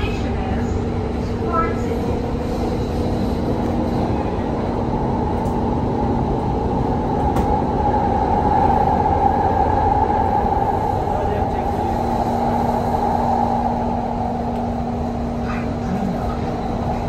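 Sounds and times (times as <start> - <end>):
train hum: 0.0 - 17.0
train rumble inside carriage: 0.0 - 17.0.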